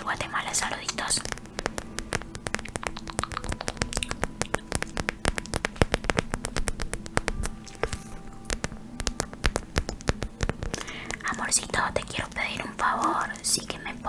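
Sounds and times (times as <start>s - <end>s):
faint steady hum: 0.0s - 14.0s
tapping and scratching on a pad: 0.0s - 14.0s.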